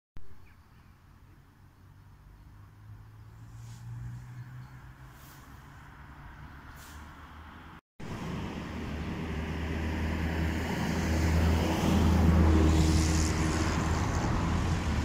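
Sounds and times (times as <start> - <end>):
car passing by: 1.8 - 15.0.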